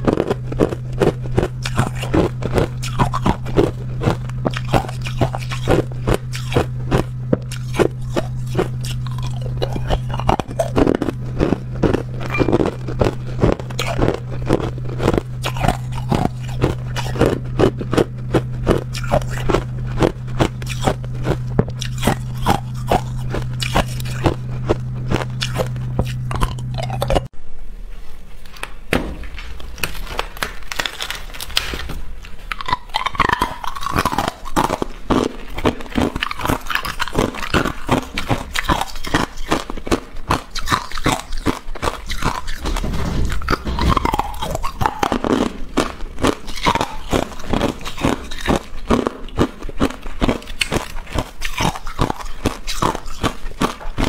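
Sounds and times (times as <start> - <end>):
ice cubes crunched between teeth: 0.0 - 27.3, 29.6 - 54.0
steady low hum: 0.0 - 54.0.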